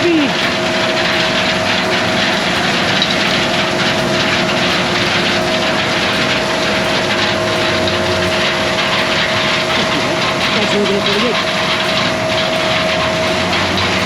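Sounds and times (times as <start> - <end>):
diesel farm machinery engine: 0.0 - 14.0.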